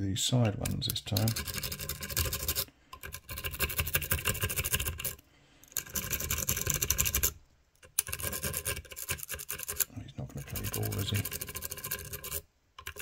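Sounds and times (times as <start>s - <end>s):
lock pick scraping in lock: 0.5s - 9.9s, 10.5s - 13.0s.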